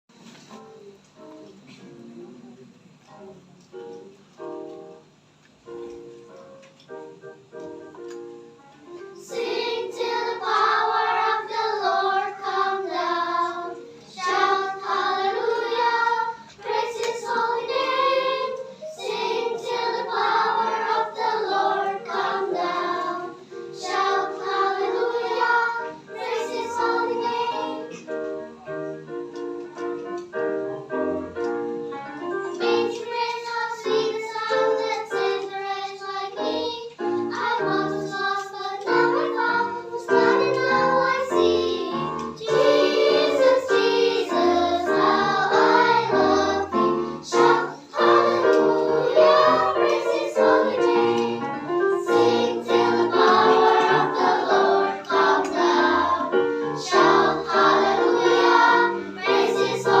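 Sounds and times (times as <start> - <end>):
keyboard accompaniment: 0.1 - 60.0
children's choir singing a hymn: 9.1 - 29.2, 31.6 - 60.0.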